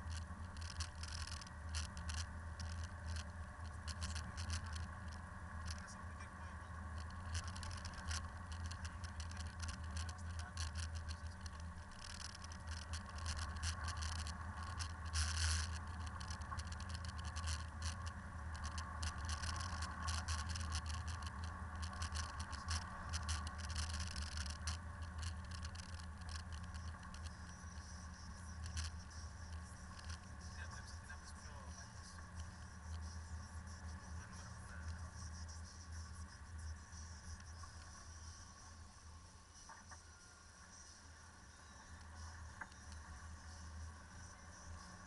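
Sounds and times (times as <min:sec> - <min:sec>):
tyres crackling on gravel: 0:00.0 - 0:38.6
car engine droning: 0:00.0 - 0:45.0.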